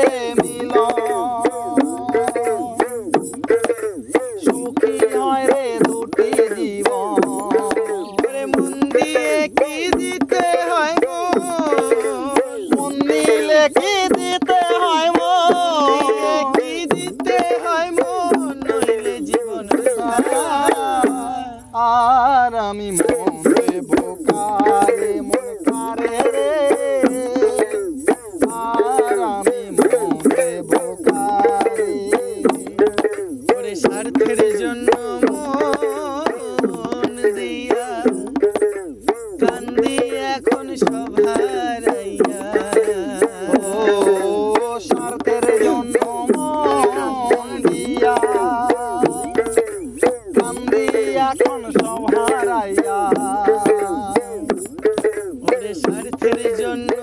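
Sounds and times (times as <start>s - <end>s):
hand drum strokes: 0.0s - 21.8s, 22.8s - 57.0s.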